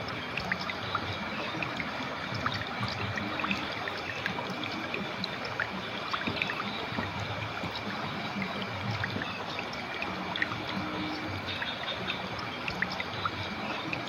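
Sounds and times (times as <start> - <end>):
river water flowing and gurgling: 0.0 - 14.0.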